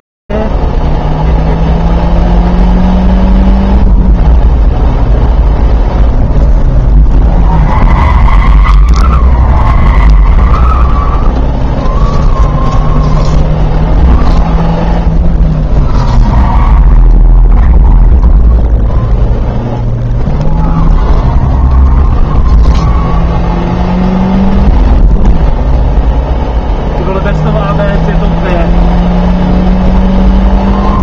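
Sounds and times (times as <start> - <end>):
car engine from inside cabin: 0.3 - 31.0.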